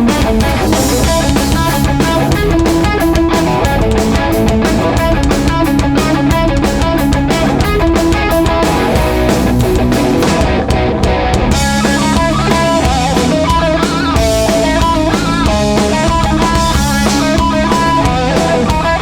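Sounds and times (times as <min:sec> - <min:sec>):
punk band playing loud: 0:00.0 - 0:19.0.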